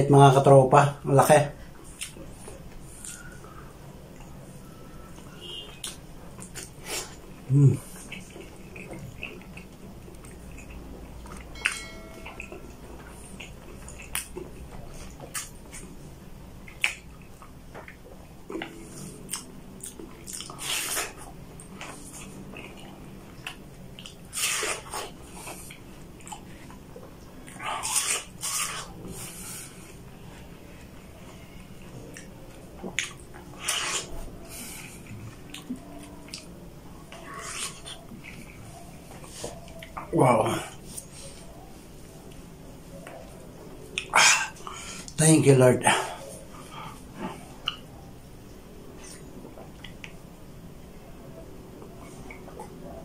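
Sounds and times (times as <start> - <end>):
person chewing food: 1.7 - 45.2, 46.1 - 53.0.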